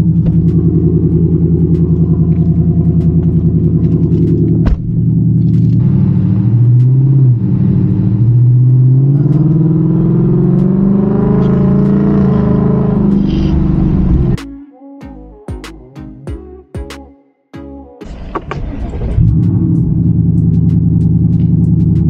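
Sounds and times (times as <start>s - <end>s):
car engine accelerating: 0.0s - 14.4s, 18.0s - 22.0s.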